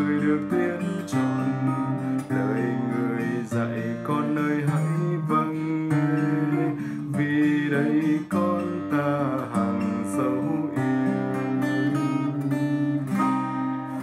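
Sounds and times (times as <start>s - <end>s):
man singing a hymn: 0.0s - 13.1s
strummed acoustic guitar: 0.0s - 14.0s.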